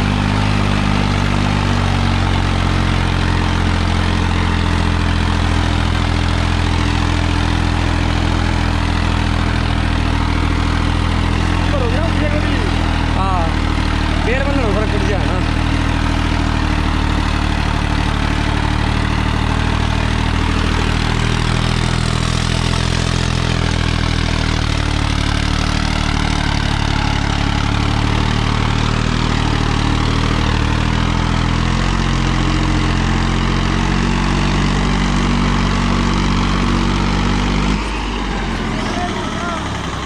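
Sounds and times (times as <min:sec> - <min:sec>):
tractor diesel engine running hard: 0:00.0 - 0:40.0.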